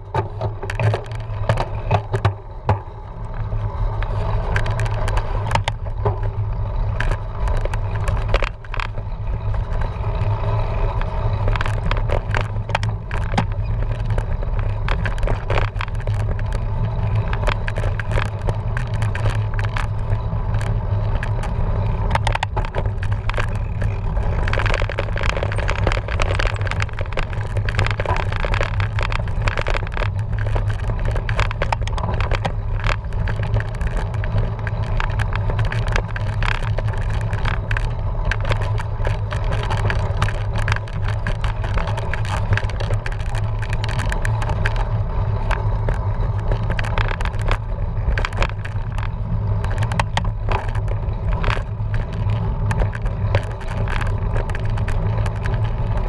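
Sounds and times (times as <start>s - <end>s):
bike rattling and clicking: 0.0s - 56.0s
bike rumbling over rough ground: 0.0s - 56.0s.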